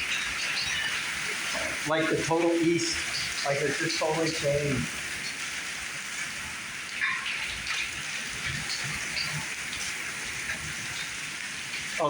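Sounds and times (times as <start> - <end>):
heavy rain on pavement and cars: 0.0 - 12.0.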